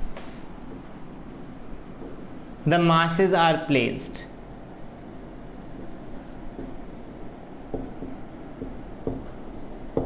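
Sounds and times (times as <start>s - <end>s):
marker writing on whiteboard: 0.0s - 10.0s.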